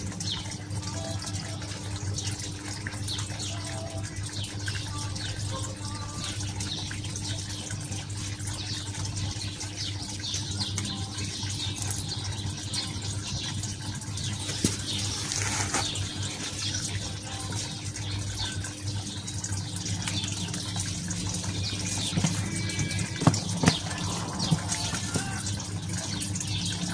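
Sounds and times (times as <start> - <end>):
running water: 0.0 - 26.9.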